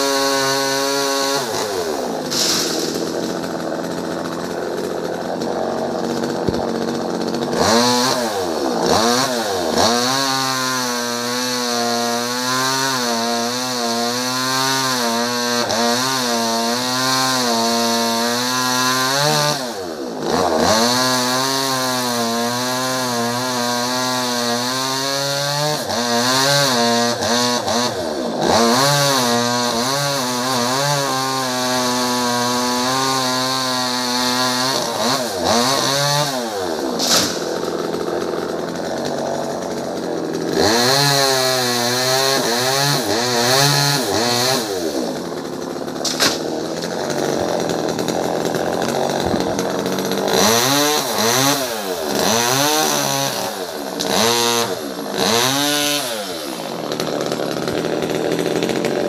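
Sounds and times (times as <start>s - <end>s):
chainsaw cutting branches: 0.0s - 59.0s.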